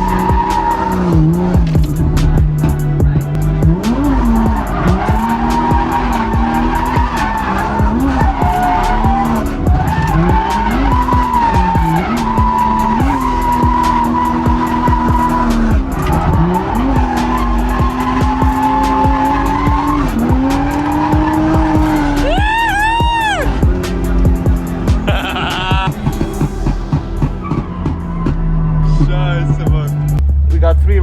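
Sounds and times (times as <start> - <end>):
tyres squealing: 0.0 - 30.2
car engine revving: 0.0 - 31.0.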